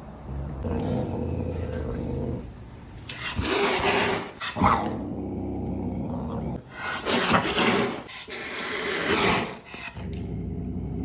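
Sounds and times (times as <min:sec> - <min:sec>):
pet animal growling: 0:00.2 - 0:11.0.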